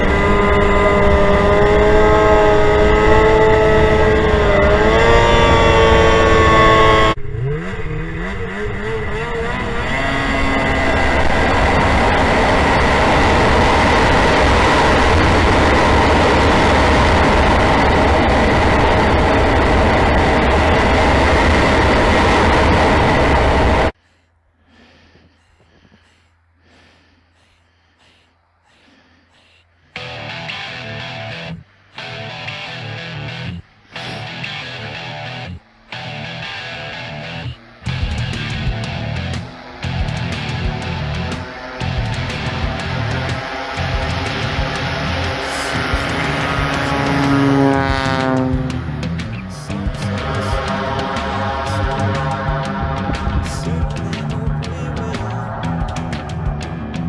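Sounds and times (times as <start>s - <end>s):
snowmobile engine running: 0.0s - 24.0s, 30.0s - 57.0s.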